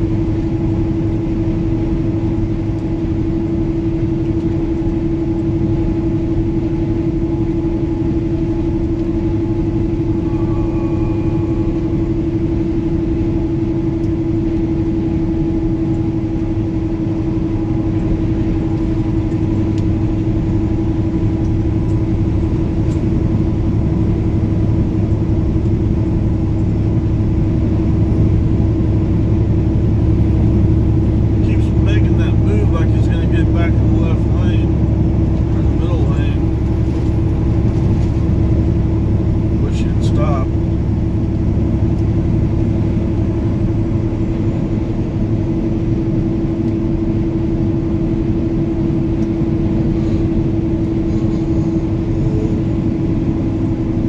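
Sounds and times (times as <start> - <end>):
truck engine and tyres droning: 0.0 - 54.0.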